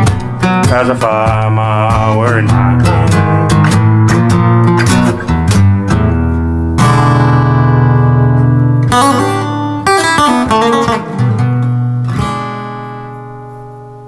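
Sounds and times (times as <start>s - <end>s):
acoustic guitar playing blues: 0.0s - 14.0s.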